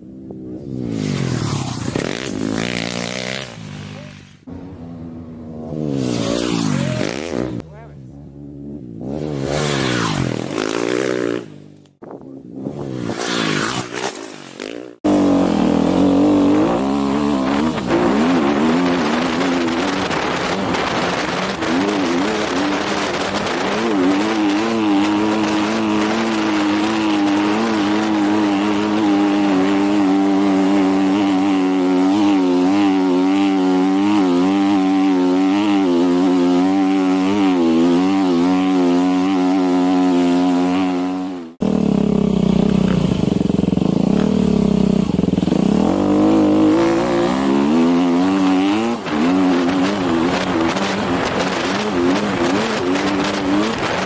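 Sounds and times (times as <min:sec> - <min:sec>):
dirt bike engine running close up: 0:00.0 - 0:14.0, 0:14.6 - 0:54.0
dirt bike engines revving: 0:00.0 - 0:54.0.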